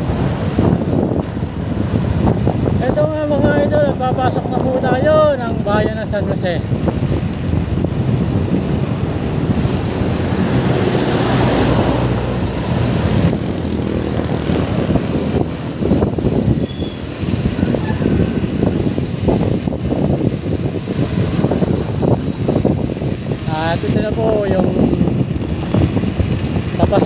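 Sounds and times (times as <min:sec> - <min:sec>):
vehicle engine rumbling: 0:00.0 - 0:27.0
wind buffeting microphone: 0:00.0 - 0:27.0.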